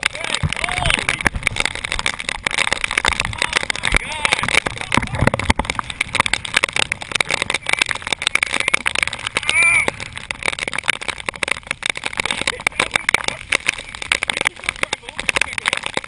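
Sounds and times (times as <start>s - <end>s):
raindrops ticking on camera: 0.0s - 16.0s.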